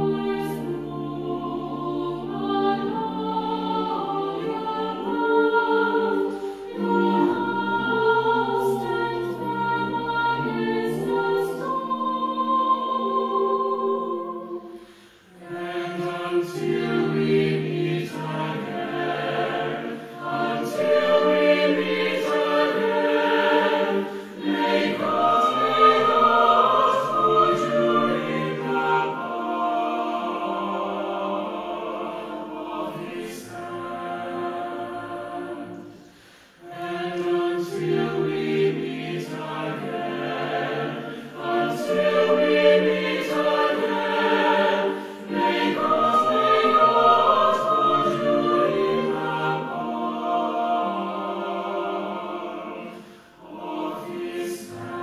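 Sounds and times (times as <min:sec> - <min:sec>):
mixed choir singing in harmony: 0:00.0 - 0:55.0.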